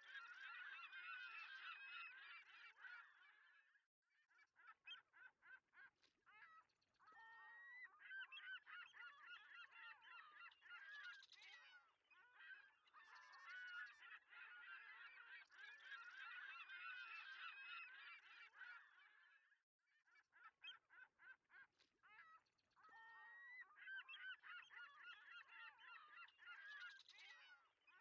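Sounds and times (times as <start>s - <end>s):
chorus of bird calls: 0.0s - 28.0s.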